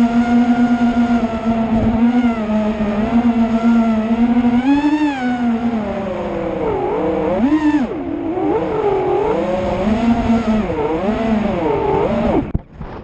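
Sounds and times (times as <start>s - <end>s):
drone motors whining: 0.0s - 13.0s
wind noise: 0.0s - 13.0s.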